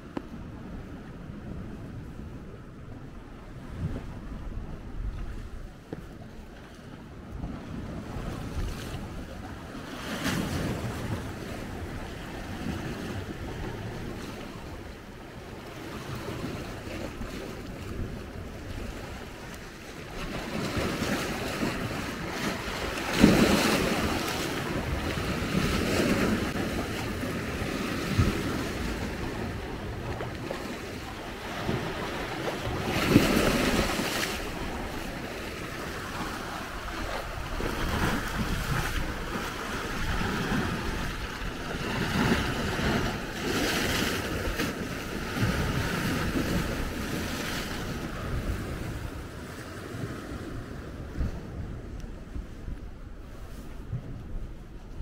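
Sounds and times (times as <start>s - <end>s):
sea waves washing on shore: 0.0s - 55.0s
wind buffeting microphone: 0.0s - 55.0s.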